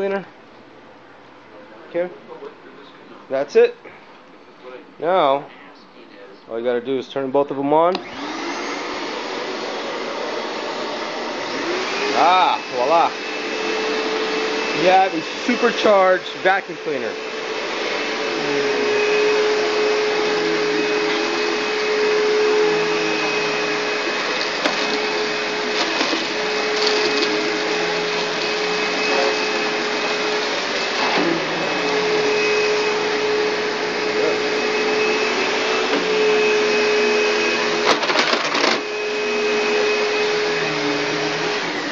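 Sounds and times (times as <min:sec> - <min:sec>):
vacuum cleaner motors whining: 0:07.5 - 0:41.9.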